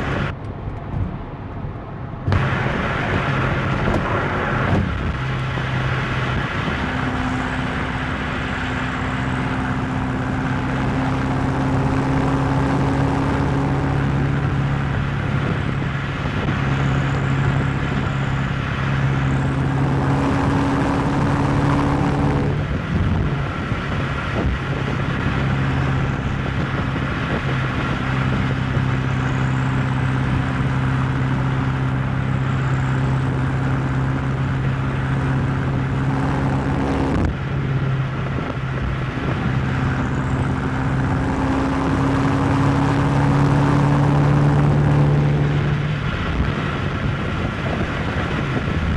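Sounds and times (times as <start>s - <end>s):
car engine running steadily: 0.0s - 48.9s
road noise: 0.0s - 48.9s.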